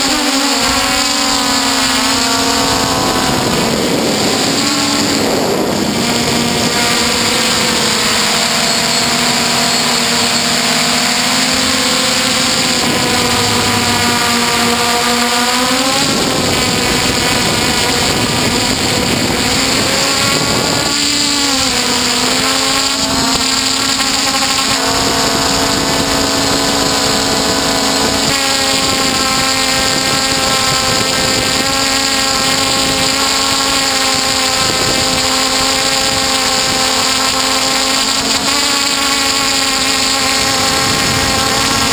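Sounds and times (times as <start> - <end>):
quadcopter motors whining: 0.0 - 41.9.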